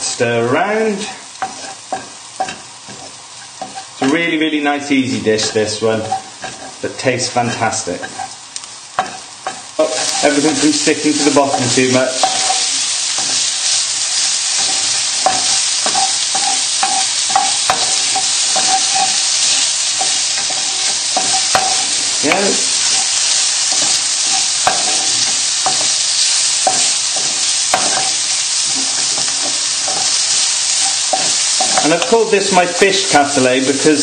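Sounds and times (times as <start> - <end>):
food sizzling in a wok: 0.0 - 34.0
spatula scraping a pan: 0.9 - 4.3, 5.0 - 33.2.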